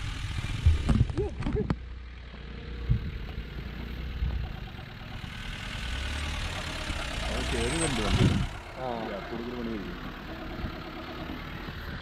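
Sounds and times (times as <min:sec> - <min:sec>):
engine rumbling at low revs: 0:00.0 - 0:12.0.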